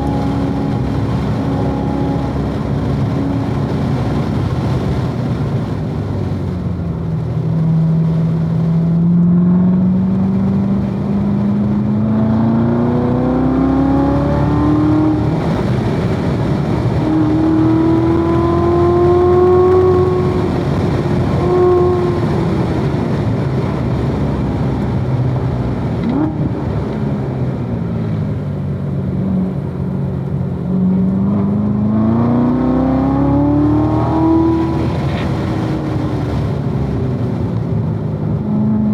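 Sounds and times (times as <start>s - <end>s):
car engine under load: 0.0s - 38.9s.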